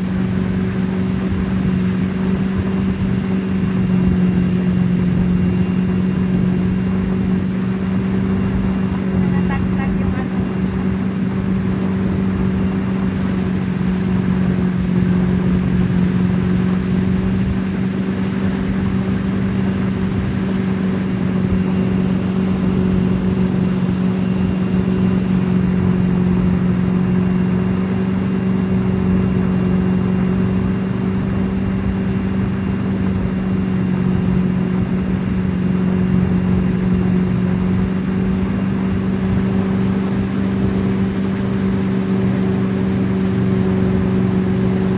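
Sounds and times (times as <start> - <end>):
motorboat engine drone: 0.0 - 44.9.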